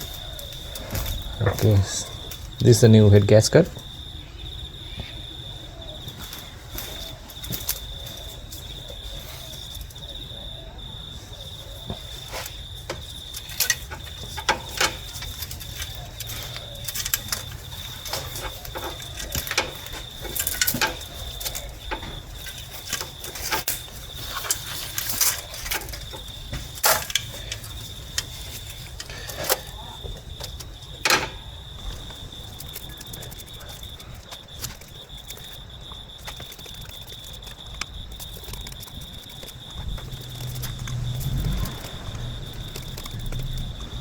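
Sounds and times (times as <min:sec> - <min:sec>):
cricket chirping: 0:00.0 - 0:44.0.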